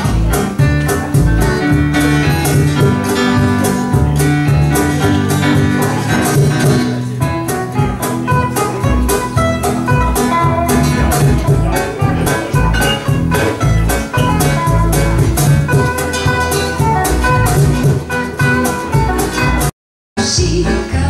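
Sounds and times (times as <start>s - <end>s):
cajon beat: 0.0s - 19.7s
double bass line: 0.0s - 21.0s
electric guitar: 0.0s - 21.0s
keyboard: 0.0s - 21.0s.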